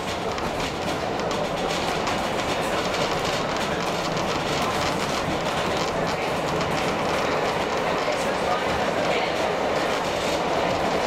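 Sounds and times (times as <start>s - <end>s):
train rolling rumble: 0.0s - 11.0s
wheels clicking on rails: 0.0s - 11.0s.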